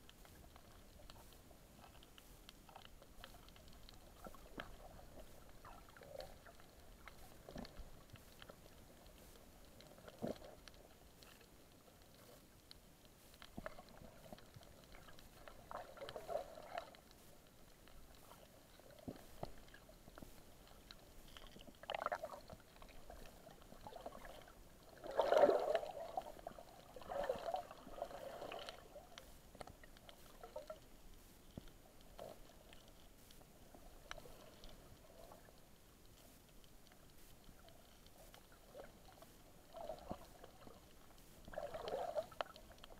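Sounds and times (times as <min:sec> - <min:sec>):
clicks and crackles: 0:00.0 - 0:42.9
underwater bubbling and gurgling: 0:00.0 - 0:42.9.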